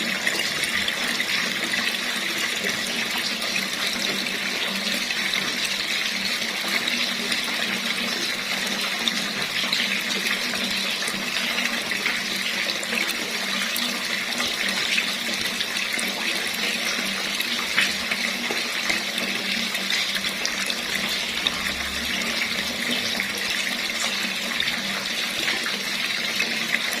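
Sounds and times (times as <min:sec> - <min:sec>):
water running from a tap: 0:00.0 - 0:27.0.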